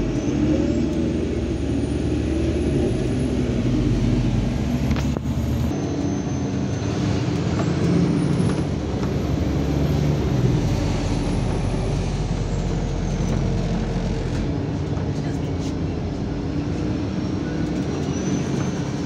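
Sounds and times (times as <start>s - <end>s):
bus engine hum: 0.0s - 19.0s
road noise: 0.0s - 19.0s.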